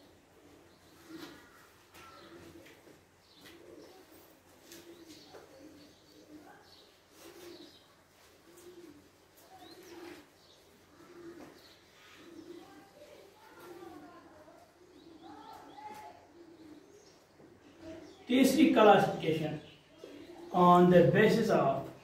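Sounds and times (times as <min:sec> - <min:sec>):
pigeon cooing: 0:00.0 - 0:22.0.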